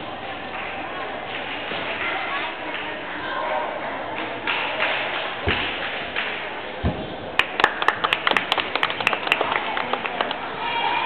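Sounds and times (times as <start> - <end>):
crowd chatter in a hall: 0.0 - 11.0.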